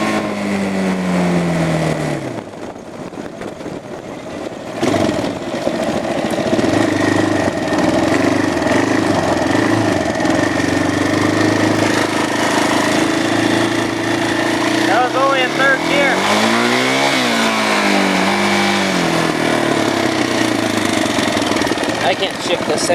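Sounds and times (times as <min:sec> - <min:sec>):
quad bike engine revving: 0:00.0 - 0:22.9.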